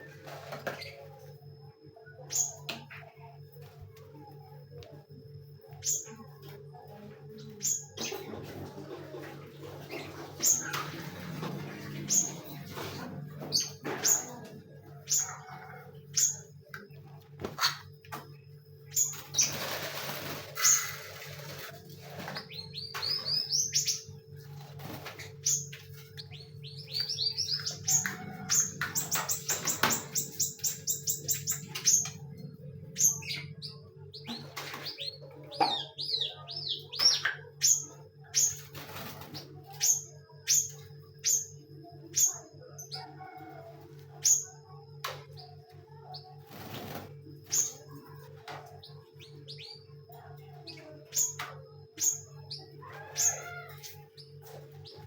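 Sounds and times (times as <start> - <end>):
songbirds chirping: 0.0 - 55.0
steady low hum: 0.0 - 55.0.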